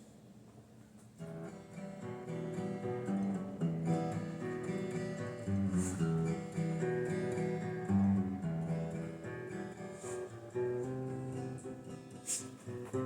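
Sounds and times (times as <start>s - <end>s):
acoustic guitar playing: 1.2s - 13.0s.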